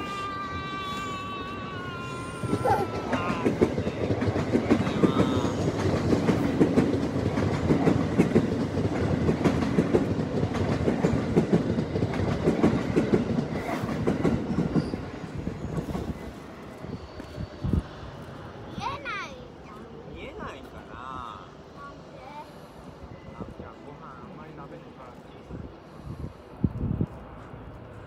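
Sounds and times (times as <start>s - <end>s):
electric train running past: 0.0s - 28.0s.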